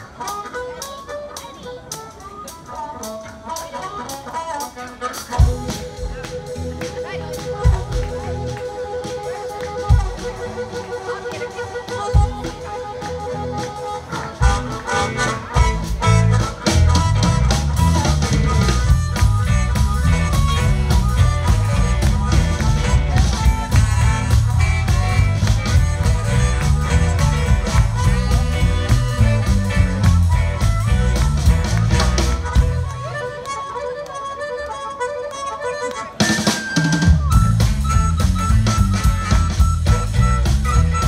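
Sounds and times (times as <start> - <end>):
electric blues band playing: 0.0 - 41.0
harmonica: 0.0 - 41.0.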